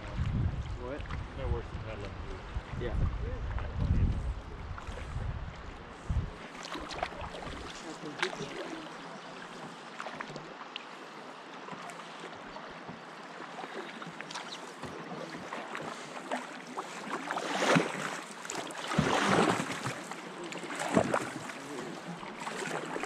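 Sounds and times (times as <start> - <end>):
canoe paddle strokes in water: 3.5 - 23.0.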